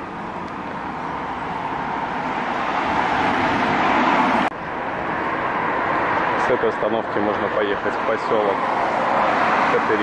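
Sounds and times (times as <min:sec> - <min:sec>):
car passing: 0:00.0 - 0:10.0
street traffic noise: 0:00.0 - 0:10.0.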